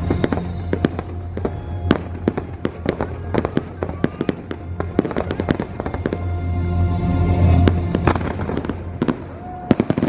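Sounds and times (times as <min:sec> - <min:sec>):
fireworks bangs and crackles: 0:00.0 - 0:06.4, 0:07.4 - 0:10.0
show music playing: 0:00.0 - 0:10.0.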